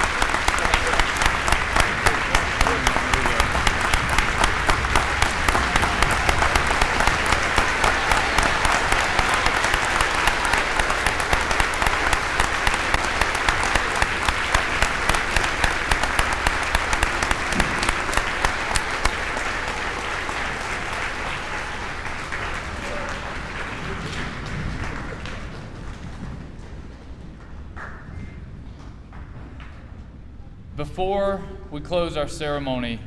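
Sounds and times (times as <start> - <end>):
audience applause: 0.0 - 26.6.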